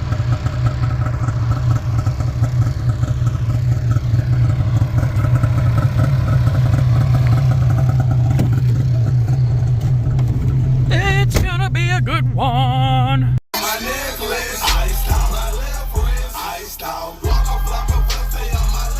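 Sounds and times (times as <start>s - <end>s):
vehicle engine droning: 0.0s - 18.9s.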